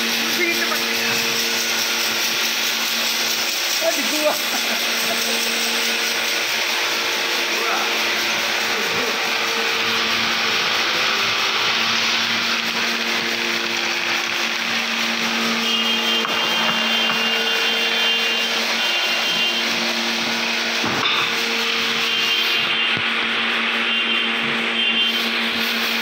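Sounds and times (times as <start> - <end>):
electric motor humming and whirring: 0.0 - 26.0.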